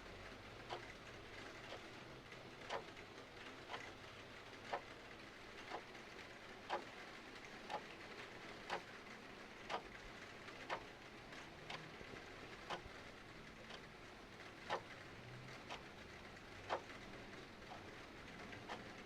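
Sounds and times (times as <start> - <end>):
rain falling: 0.0 - 19.0
clock ticking: 0.6 - 4.0, 4.7 - 6.0, 6.6 - 9.0, 9.6 - 13.8, 14.4 - 19.0.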